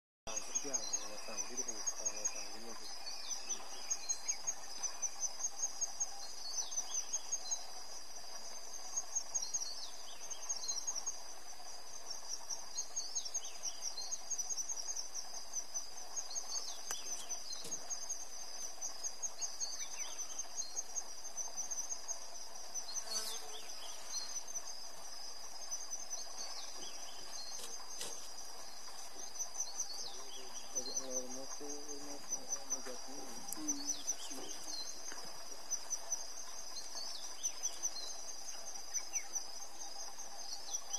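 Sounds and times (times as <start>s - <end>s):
high-pitched insect chorus: 0.3s - 40.9s.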